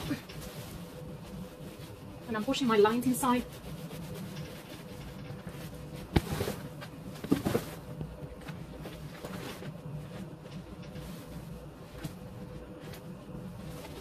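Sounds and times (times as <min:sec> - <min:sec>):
vinyl scuffing and rustling: 0:00.0 - 0:14.0.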